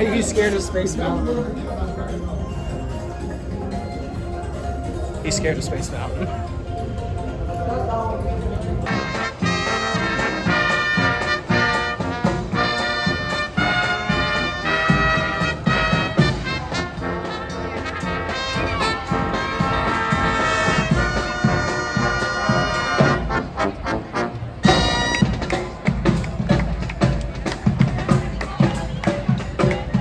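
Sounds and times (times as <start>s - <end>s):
brass swing music: 0.0s - 30.0s.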